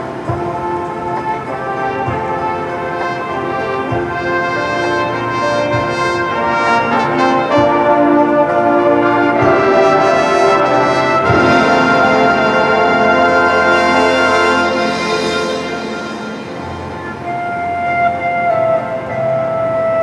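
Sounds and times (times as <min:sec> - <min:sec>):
brass band sustained chords: 0:00.0 - 0:20.0.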